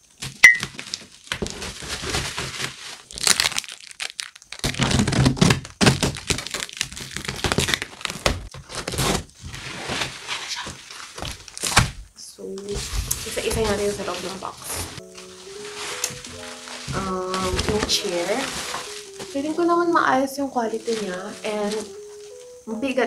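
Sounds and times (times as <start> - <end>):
cardboard and plastic wrap crinkling: 0.0 - 22.7
packing tape tearing: 0.2 - 12.0, 12.6 - 19.6.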